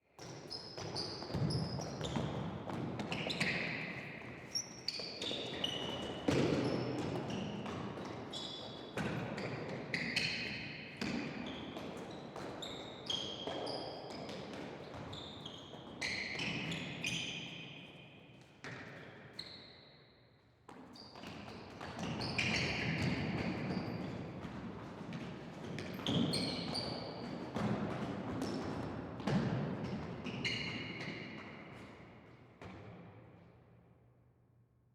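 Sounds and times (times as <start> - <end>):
shoes squeaking on court floor: 0.2 - 18.0, 18.6 - 20.1, 20.7 - 32.1.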